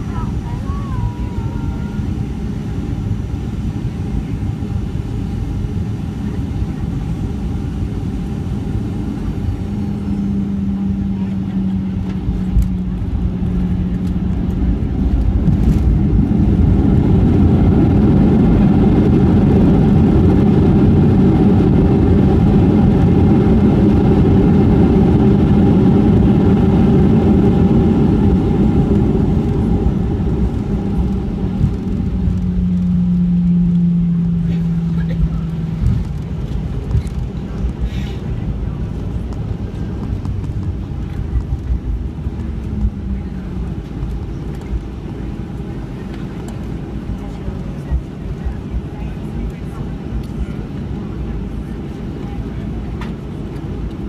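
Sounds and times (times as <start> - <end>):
airplane cabin rush and hum: 0.0 - 54.0
jet engine reverse thrust roar: 0.0 - 54.0.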